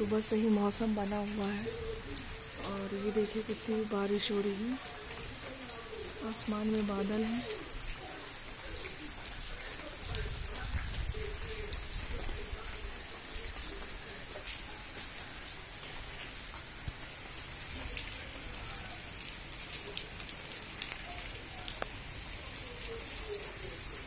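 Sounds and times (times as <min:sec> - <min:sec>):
raindrops ticking: 0:00.0 - 0:24.0
steady rain falling: 0:00.0 - 0:24.0.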